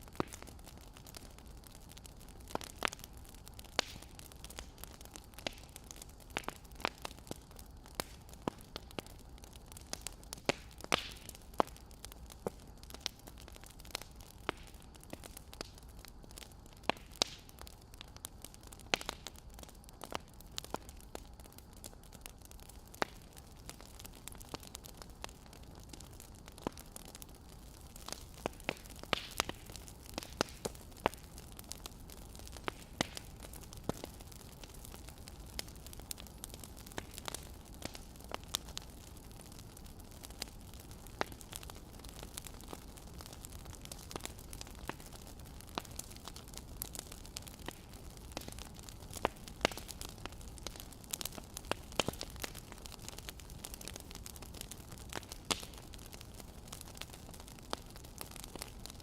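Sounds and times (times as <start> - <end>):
faint steady hiss: 0.0 - 59.0
wood fire crackling: 0.0 - 59.0.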